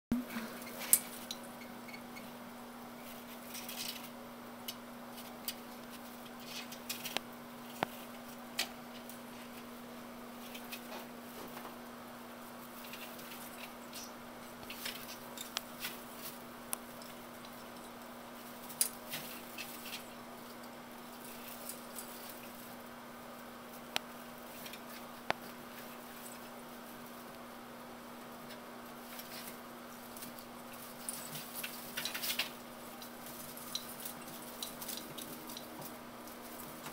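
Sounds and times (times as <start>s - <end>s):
branches rustling and crackling: 2.2s - 36.9s.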